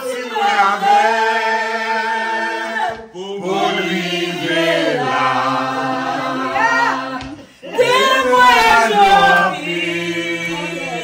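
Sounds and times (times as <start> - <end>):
choral chant singing: 0.0 - 11.0.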